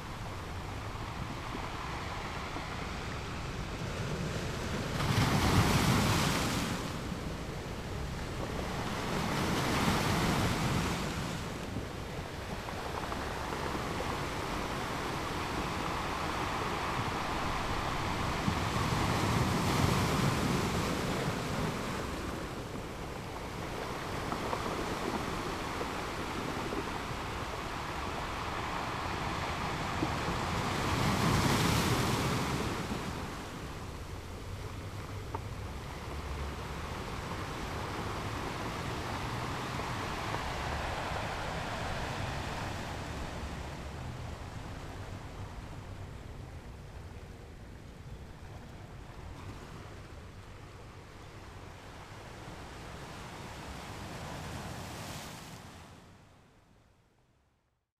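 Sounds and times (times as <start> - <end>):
wind on the microphone: 0.0 - 55.8
sea waves washing on shore: 0.0 - 56.3.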